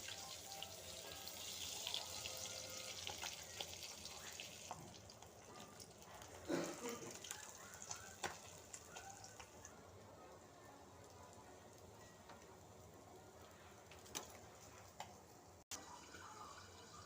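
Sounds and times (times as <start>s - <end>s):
fish frying in oil: 0.0s - 10.0s, 10.9s - 17.0s.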